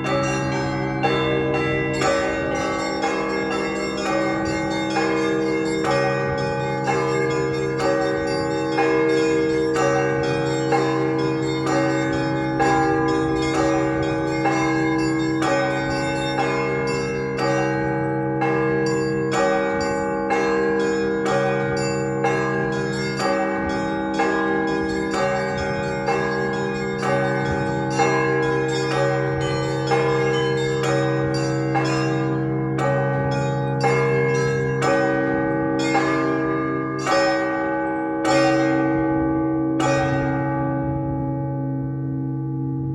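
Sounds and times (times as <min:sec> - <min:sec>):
deep bells ringing: 0:00.0 - 0:42.9.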